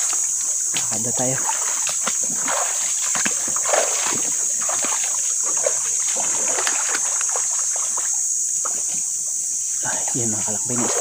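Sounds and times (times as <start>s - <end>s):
footsteps wading through water: 0.0s - 9.0s, 10.4s - 11.0s
steady high-pitched hiss: 0.0s - 11.0s.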